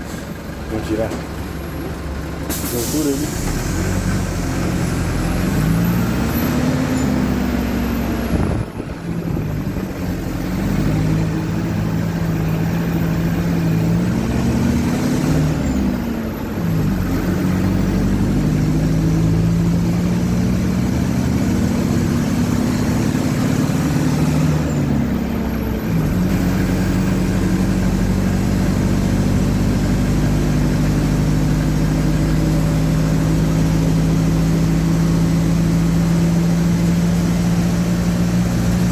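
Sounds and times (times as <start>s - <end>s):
bus engine accelerating: 0.0s - 38.9s.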